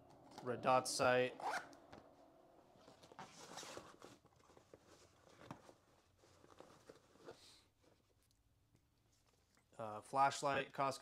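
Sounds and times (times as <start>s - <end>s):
soft rustles of handling gear: 0.0s - 10.0s.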